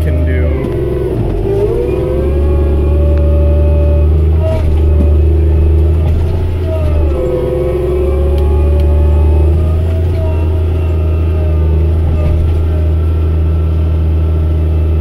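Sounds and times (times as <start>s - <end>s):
engine whine: 0.0s - 15.0s
tractor diesel engine drone: 0.0s - 15.0s.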